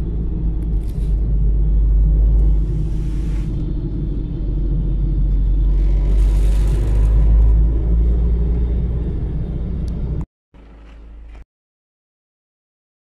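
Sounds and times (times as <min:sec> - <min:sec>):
vehicle engine and road rumble: 0:00.0 - 0:11.4.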